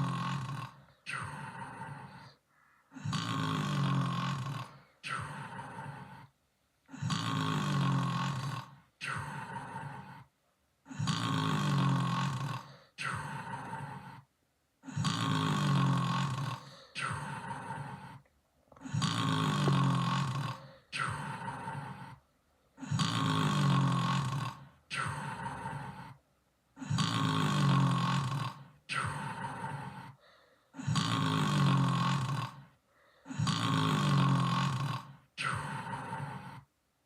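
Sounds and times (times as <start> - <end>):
person snoring: 0.0 - 36.7.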